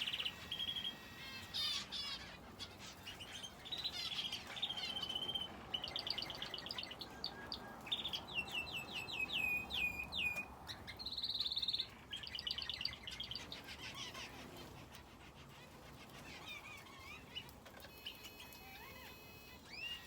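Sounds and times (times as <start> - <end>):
finches and canary singing: 0.0 - 20.0.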